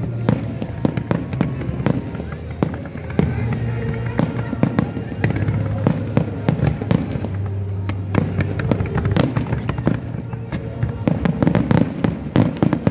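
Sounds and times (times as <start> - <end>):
fireworks bangs and crackles: 0.0 - 12.9.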